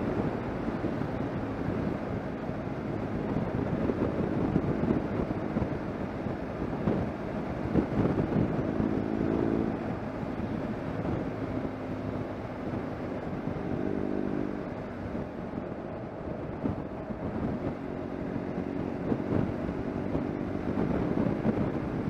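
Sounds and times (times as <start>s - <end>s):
motorcycle engine running: 0.0s - 22.0s
wind and road noise: 0.0s - 22.0s.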